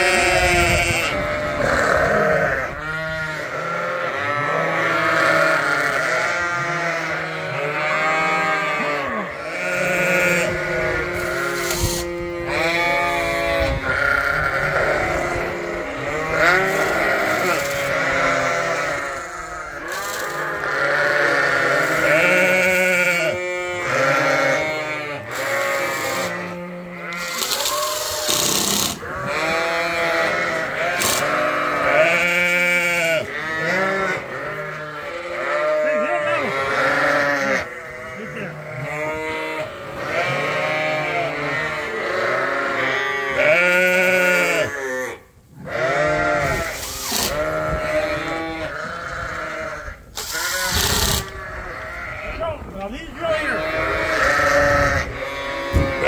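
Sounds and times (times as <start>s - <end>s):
sheep bleating: 0.0s - 56.0s.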